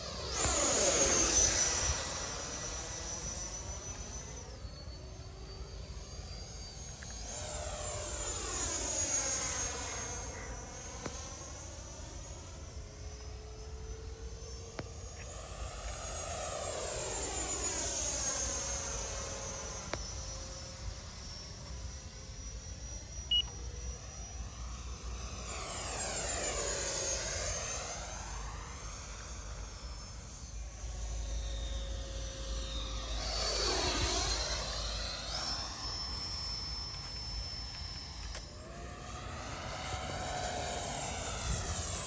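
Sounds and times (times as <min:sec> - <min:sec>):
model jet fan whine: 0:00.0 - 0:42.0.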